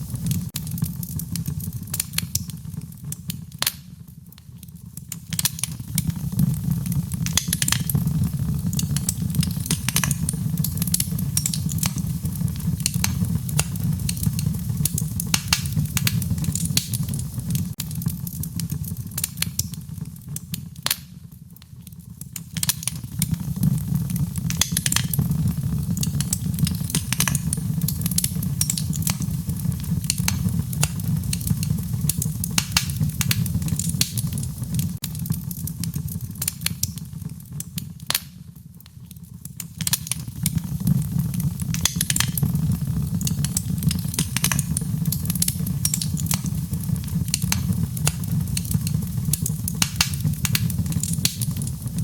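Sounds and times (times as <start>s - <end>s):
low fire rumble: 0.0s - 52.0s
wood fire crackling and popping: 0.0s - 52.0s.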